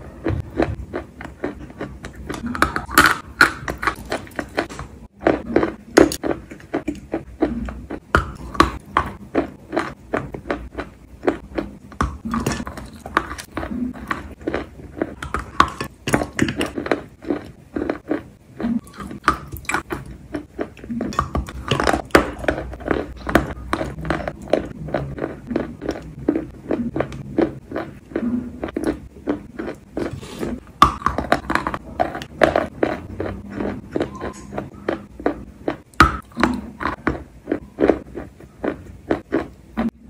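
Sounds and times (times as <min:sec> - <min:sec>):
chewing crunches: 0:00.1 - 0:40.0.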